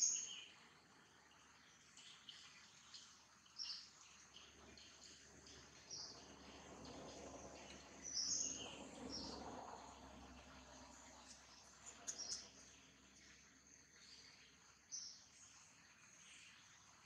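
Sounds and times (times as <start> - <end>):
insects: 0.0 - 17.0.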